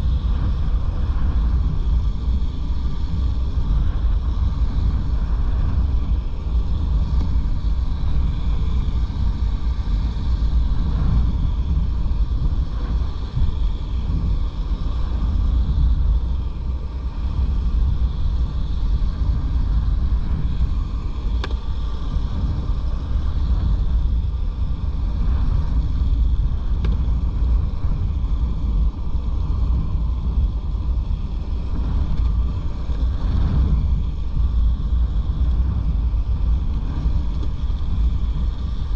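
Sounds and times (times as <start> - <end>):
strong wind buffeting microphone: 0.0 - 38.9.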